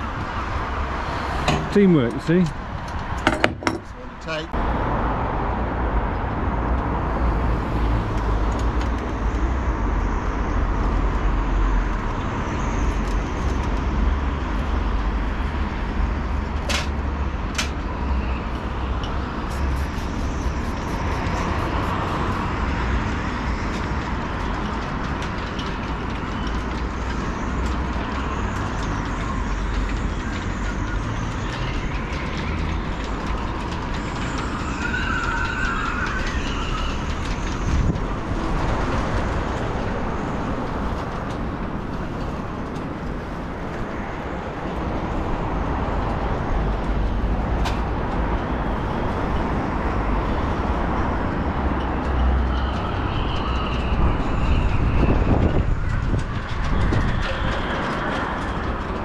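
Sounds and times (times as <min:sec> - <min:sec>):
wind buffeting microphone: 0:00.0 - 0:34.6, 0:35.2 - 0:59.0.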